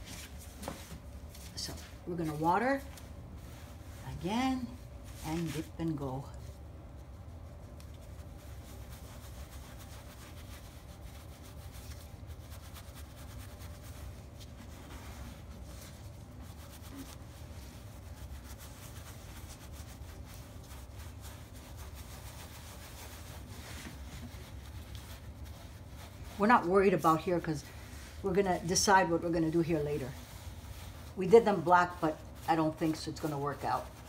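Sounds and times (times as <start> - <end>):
low steady hum: 0.0 - 34.0
paint brush scrubbing fabric: 0.0 - 34.0.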